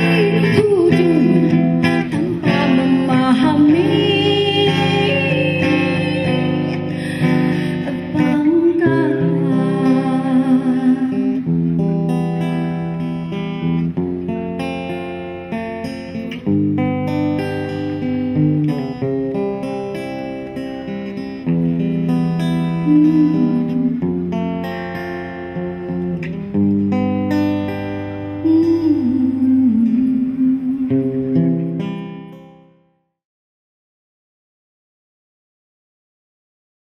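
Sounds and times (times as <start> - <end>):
acoustic guitar chords: 0.0 - 33.2.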